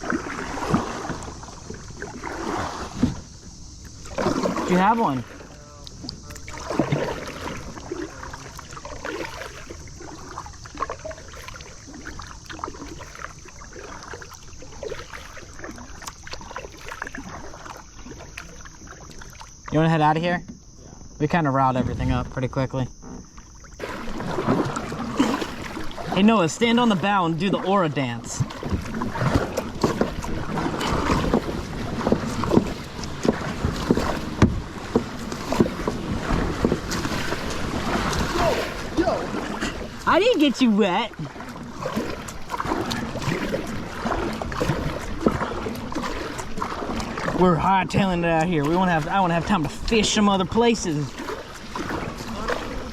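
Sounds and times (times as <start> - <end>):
water rushing: 0.0 - 20.4, 23.4 - 52.9
paddle dips and splashes: 0.0 - 20.8, 21.6 - 52.9
high insect drone: 0.0 - 52.9.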